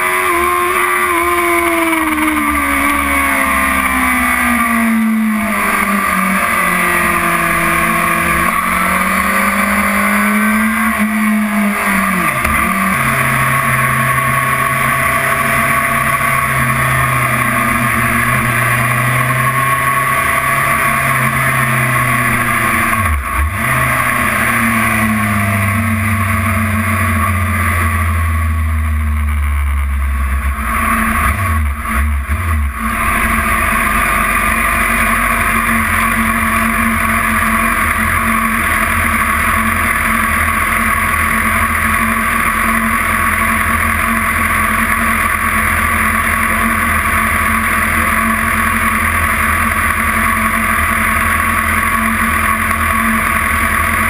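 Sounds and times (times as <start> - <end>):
motorcycle engine slowing: 0.0 - 54.0.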